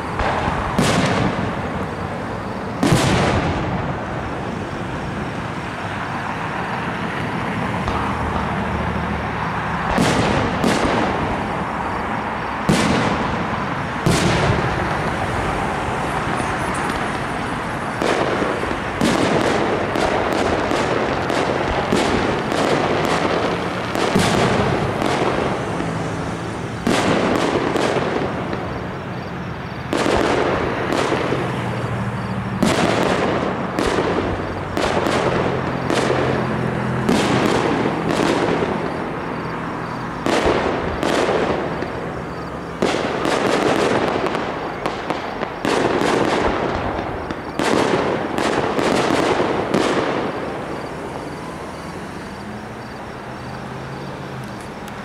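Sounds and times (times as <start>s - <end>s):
firework shells bursting: 0.0s - 3.9s, 9.8s - 51.9s
fireworks crackling: 0.0s - 55.0s.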